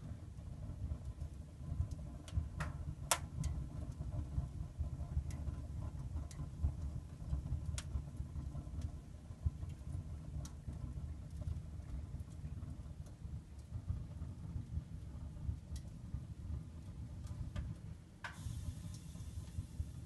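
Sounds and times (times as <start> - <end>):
fire crackles: 0.0 - 20.0
wood fire burning in a stove: 0.0 - 20.0.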